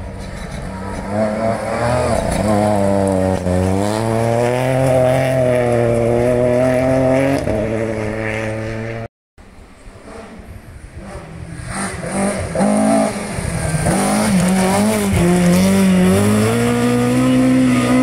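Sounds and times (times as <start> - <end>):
rally car engine at full effort: 0.0 - 18.0.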